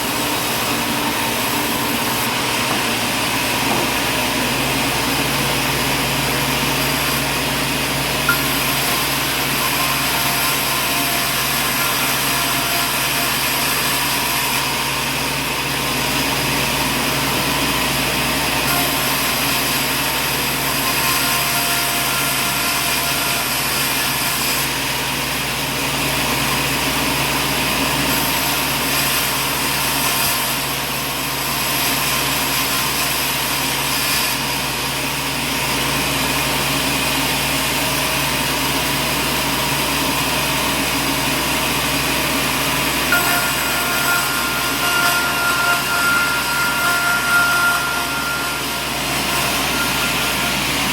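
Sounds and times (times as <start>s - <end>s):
motor hum and whine: 0.0s - 50.9s.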